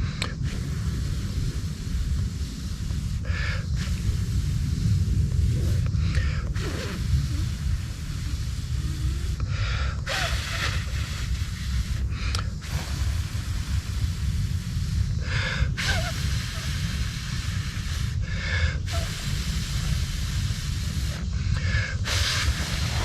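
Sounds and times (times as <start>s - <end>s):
person blowing into microphone: 0.0s - 23.0s
sharp in-breath: 0.0s - 23.0s.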